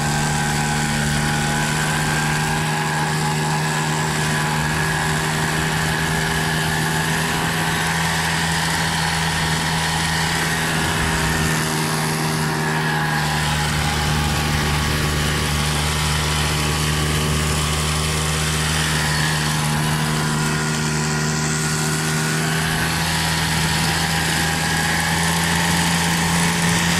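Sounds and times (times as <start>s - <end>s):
quad bike engine droning: 0.0s - 26.9s.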